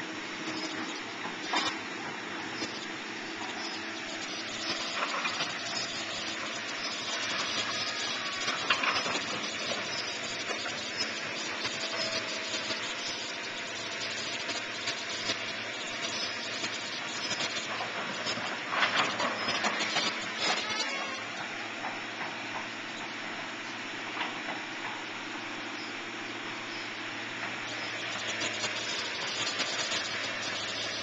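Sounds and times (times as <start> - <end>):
steady engine noise: 0.0 - 31.0.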